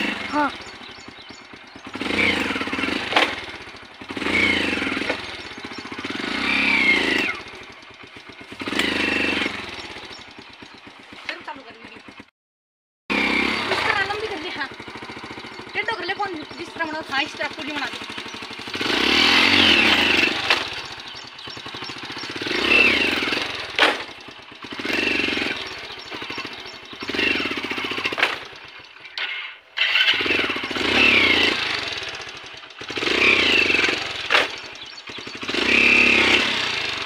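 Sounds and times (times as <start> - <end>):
motorcycle engine revving: 0.0 - 12.3, 13.1 - 37.0.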